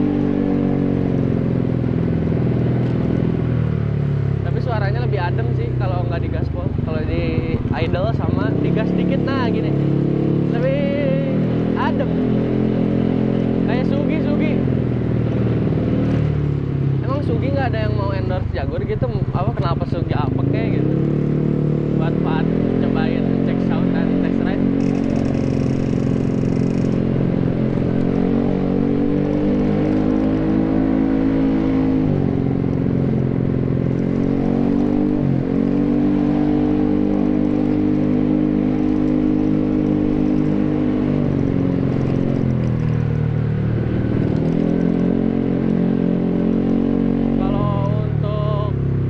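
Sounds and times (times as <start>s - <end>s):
scooter engine revving: 0.0s - 49.0s.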